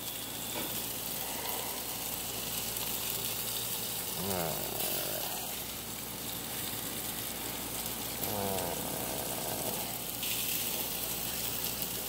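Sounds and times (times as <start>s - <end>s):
chicken sizzling on a grill: 0.0s - 12.0s.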